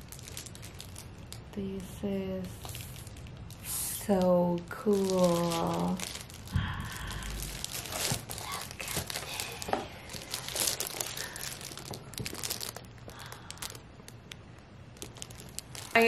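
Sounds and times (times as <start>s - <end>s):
plastic shrink wrap crinkling: 0.0s - 16.0s.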